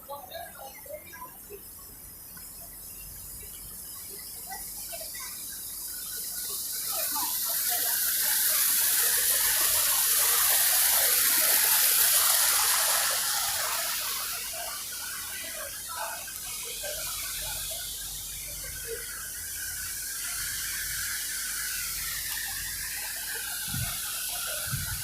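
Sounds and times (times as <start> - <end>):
splashing falling water: 3.1 - 25.0.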